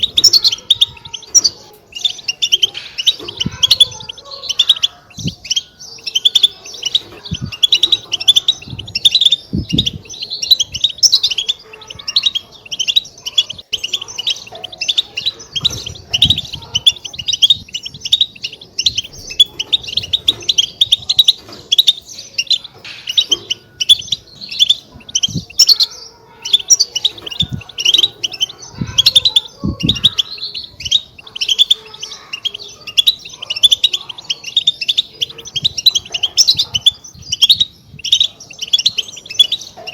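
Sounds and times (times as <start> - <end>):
birds twittering chatter: 0.0 - 39.9.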